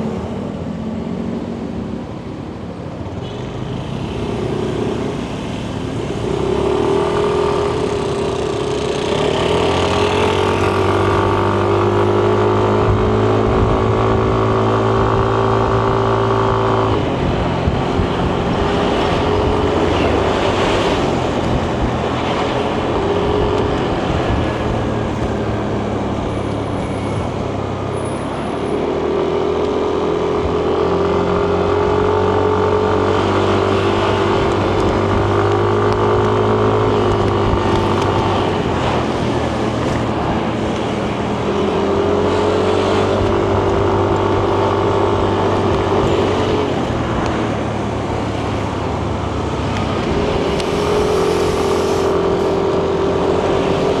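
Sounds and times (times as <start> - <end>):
road and wind noise: 0.0 - 54.0
scooter engine: 0.0 - 54.0.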